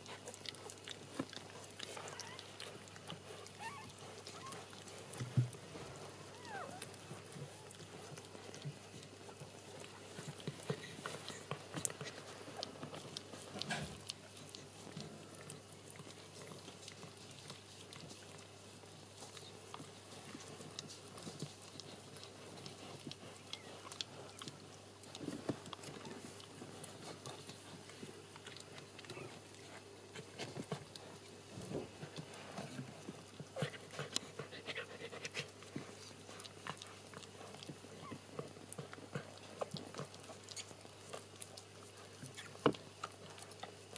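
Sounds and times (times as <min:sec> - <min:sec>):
dog licking and snuffling: 0:00.0 - 0:43.9.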